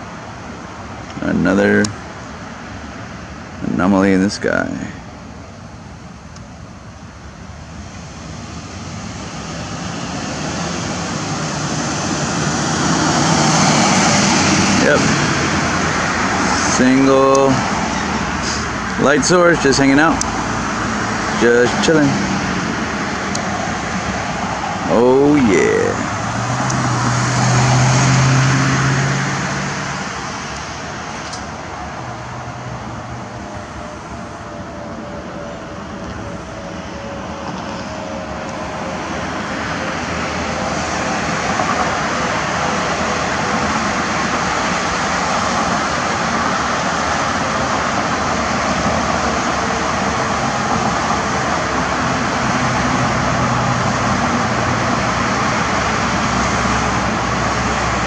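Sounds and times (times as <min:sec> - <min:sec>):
airplane engine drone: 0:00.0 - 0:58.0.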